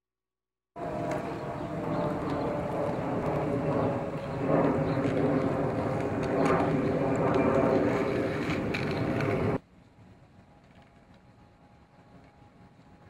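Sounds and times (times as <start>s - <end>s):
street noise: 0.8s - 13.0s.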